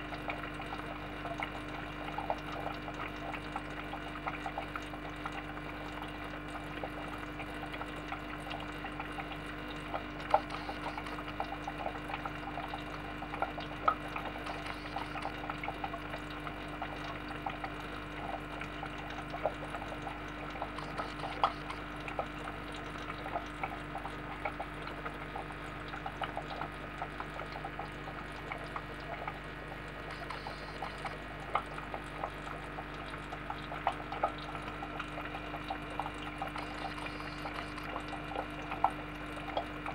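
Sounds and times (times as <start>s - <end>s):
aquarium water trickling and bubbling: 0.0s - 39.9s
small drips and pops: 0.0s - 39.9s.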